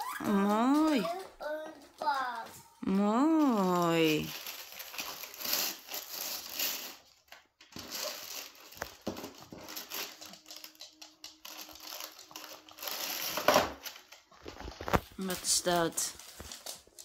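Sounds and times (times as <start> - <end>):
wrapping paper crinkling and tearing: 0.0 - 17.0.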